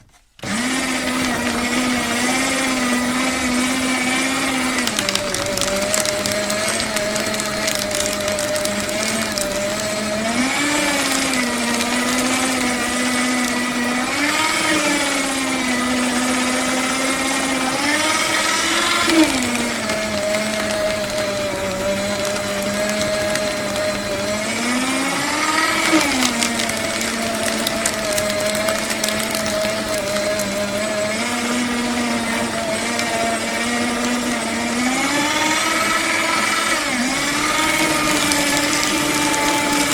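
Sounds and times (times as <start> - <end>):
paper shredder motor hum: 0.0 - 39.9.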